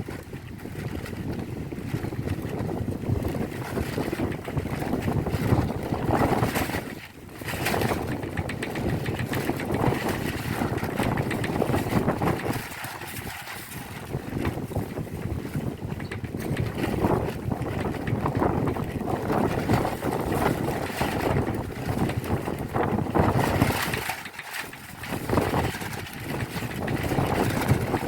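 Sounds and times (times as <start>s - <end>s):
wind gusts buffeting microphone: 0.0s - 28.0s.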